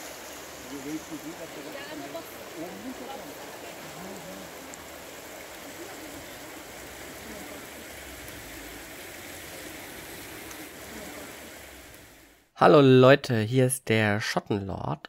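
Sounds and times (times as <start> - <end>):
floodwater rushing: 0.0 - 12.5.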